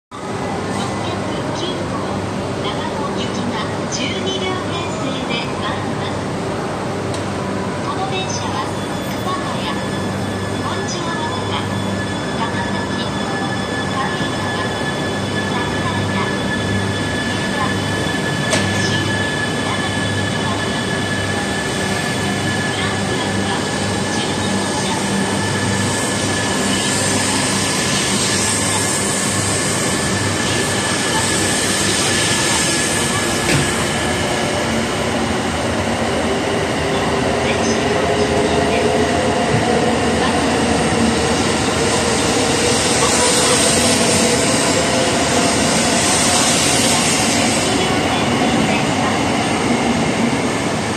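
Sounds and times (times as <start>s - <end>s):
high-speed train rushing past: 0.1s - 50.9s.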